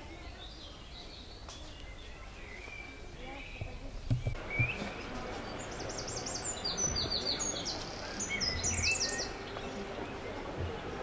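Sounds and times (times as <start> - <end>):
songbird singing: 0.0 - 11.0
steady background noise: 0.0 - 11.0.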